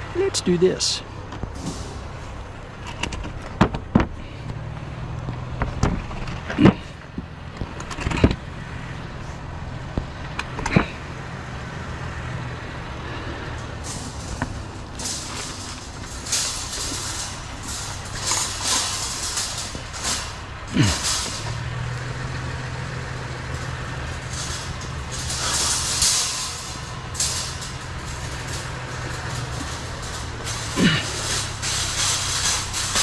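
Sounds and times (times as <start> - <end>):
metal scraping and rattling: 0.0 - 33.0
vehicle engine idling: 0.0 - 33.0
scrap metal clanking: 1.5 - 33.0.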